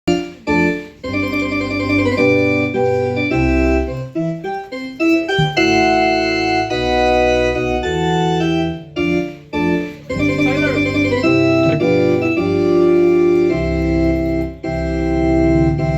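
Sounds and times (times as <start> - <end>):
live band music: 0.1 - 15.8.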